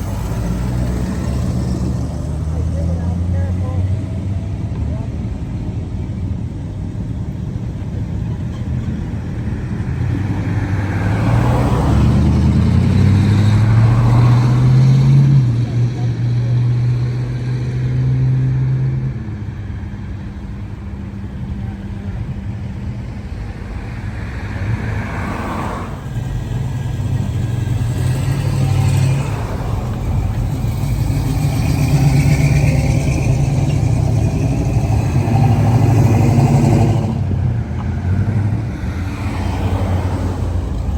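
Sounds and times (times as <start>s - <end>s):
cars driving past: 0.0s - 40.9s.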